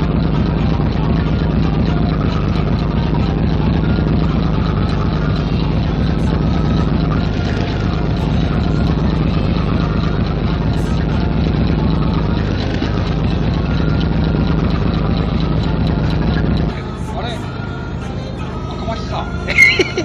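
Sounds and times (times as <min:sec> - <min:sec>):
boat engine idling: 0:00.0 - 0:20.0.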